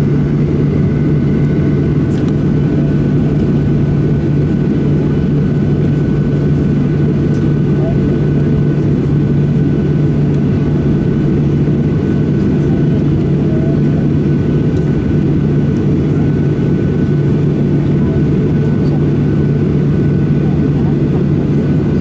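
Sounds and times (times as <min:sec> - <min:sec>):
airplane cabin engine hum: 0:00.0 - 0:22.0.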